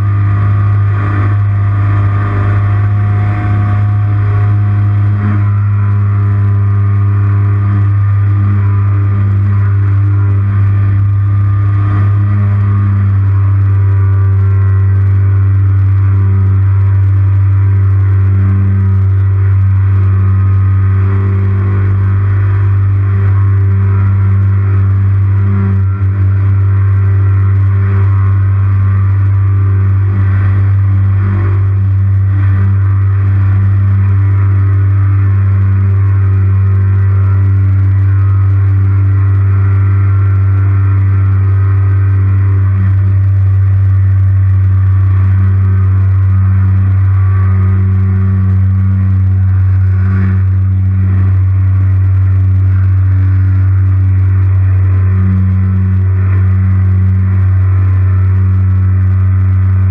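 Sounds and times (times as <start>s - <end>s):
microlight engine and propeller hum: 0.0s - 59.9s.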